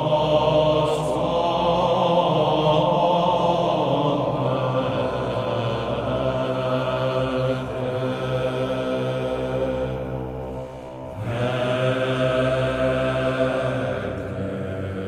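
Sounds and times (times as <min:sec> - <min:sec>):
slow vocal chant: 0:00.0 - 0:15.0.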